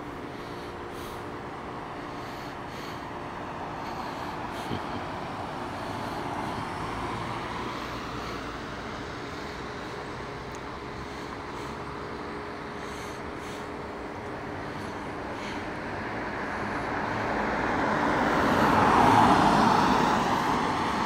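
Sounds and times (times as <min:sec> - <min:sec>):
car passing: 0:00.0 - 0:13.6, 0:14.4 - 0:21.0
road traffic noise: 0:00.0 - 0:21.0.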